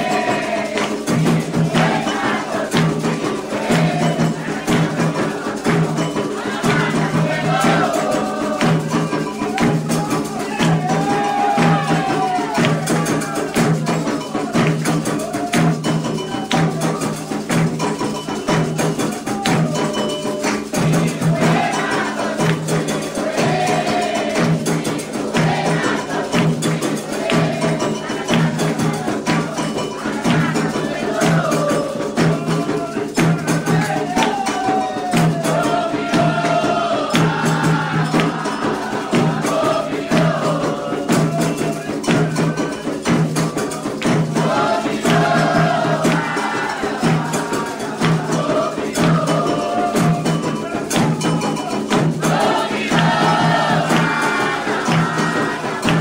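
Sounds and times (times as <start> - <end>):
bright struck percussion: 0.0 - 56.0
hand drums beating: 0.0 - 56.0
voices chanting: 0.0 - 56.0.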